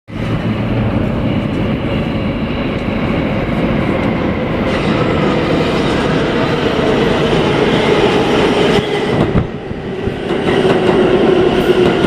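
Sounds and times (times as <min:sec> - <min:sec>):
train wheels rumbling on rails: 0:00.1 - 0:12.0.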